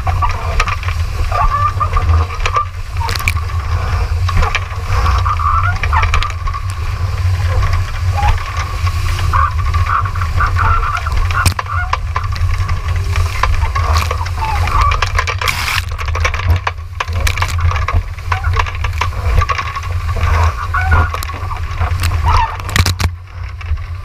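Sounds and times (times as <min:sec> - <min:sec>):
water rushing along hull: 0:00.0 - 0:24.0
wind buffeting microphone: 0:00.0 - 0:24.0.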